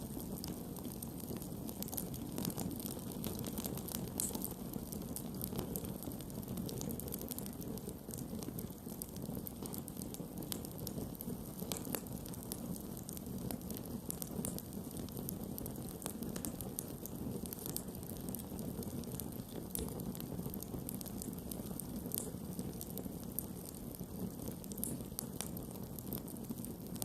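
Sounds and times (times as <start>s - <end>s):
campfire crackling and popping: 0.0s - 27.0s
low rush of flames: 0.0s - 27.0s.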